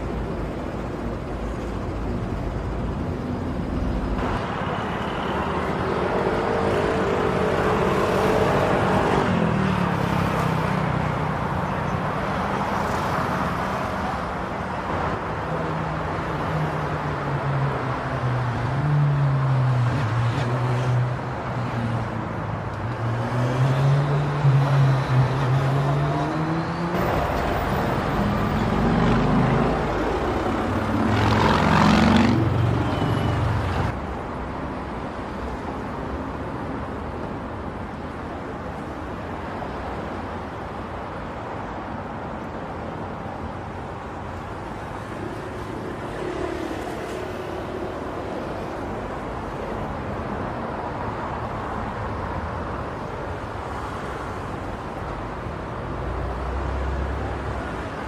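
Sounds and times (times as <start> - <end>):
steady traffic rush: 0.0 - 58.0
vehicle engines passing: 0.0 - 58.0.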